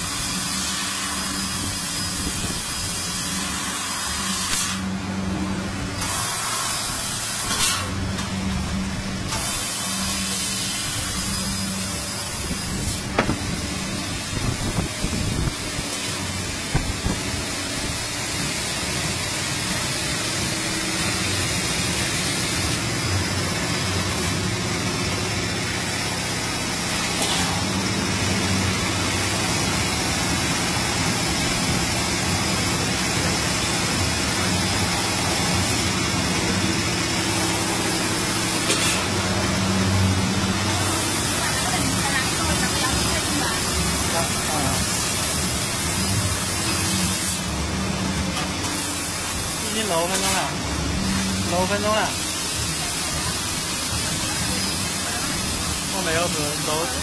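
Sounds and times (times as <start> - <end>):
laser cutter hiss and hum: 0.0 - 57.0.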